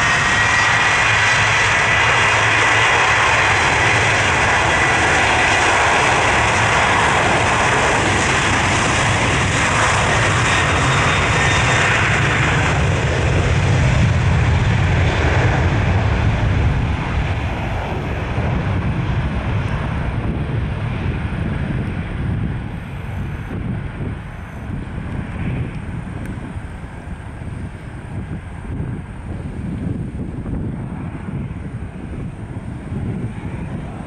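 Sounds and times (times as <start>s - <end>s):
jet engines at high power: 0.0s - 34.0s
low rumble: 0.0s - 34.0s.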